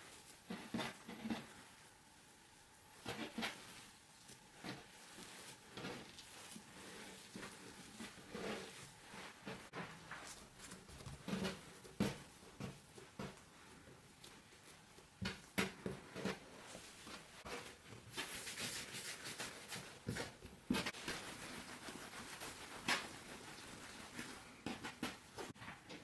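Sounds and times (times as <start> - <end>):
rustling: 0.0 - 26.0.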